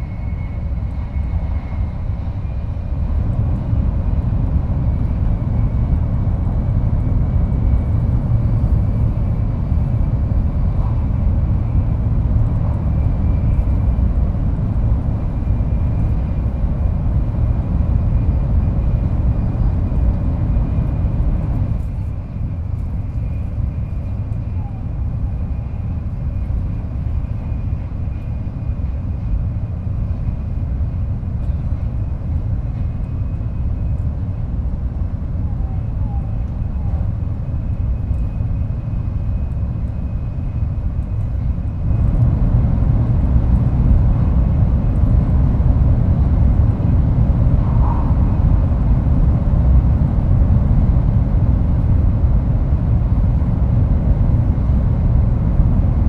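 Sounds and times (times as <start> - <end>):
train rumble and rush: 0.0 - 56.0.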